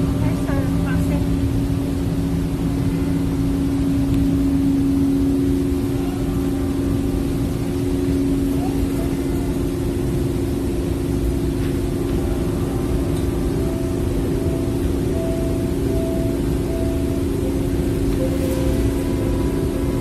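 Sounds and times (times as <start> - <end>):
low hum with deep rumble: 0.0 - 20.0.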